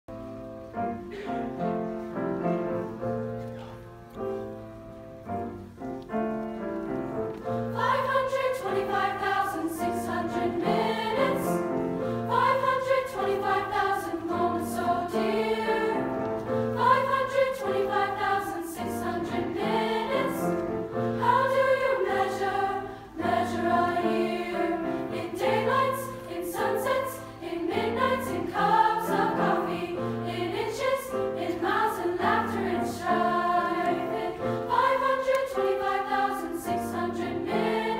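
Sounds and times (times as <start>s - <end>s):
grand piano playing: 0.1s - 37.9s
girls' choir singing: 6.2s - 37.9s.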